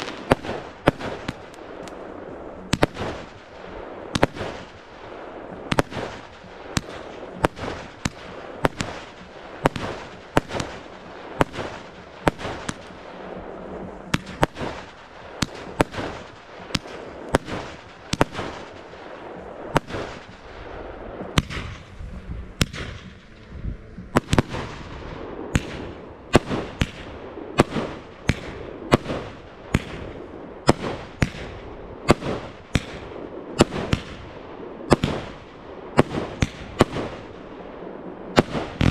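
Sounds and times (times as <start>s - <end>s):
fireworks bursting with sharp bangs: 0.0s - 38.9s.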